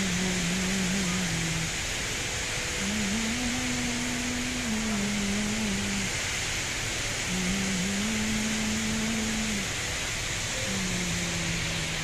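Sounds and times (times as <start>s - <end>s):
indoor waterfall rushing: 0.0s - 12.0s
low sustained melodic tone: 0.0s - 12.0s.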